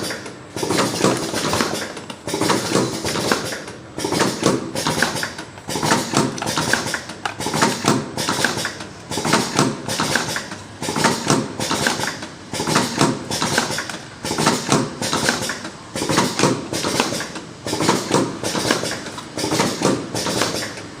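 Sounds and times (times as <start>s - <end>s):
packing machine clattering: 0.0s - 21.0s.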